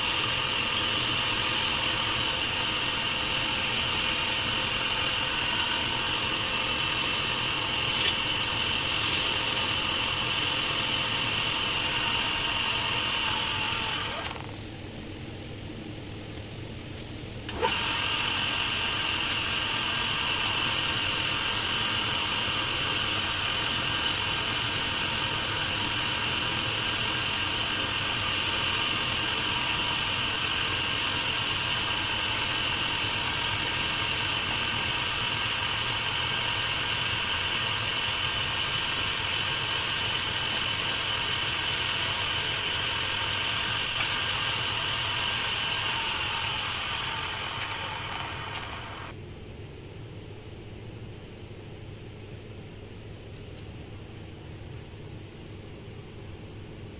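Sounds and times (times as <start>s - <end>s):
wood lathe motor whining: 0.0s - 14.5s, 17.5s - 49.1s.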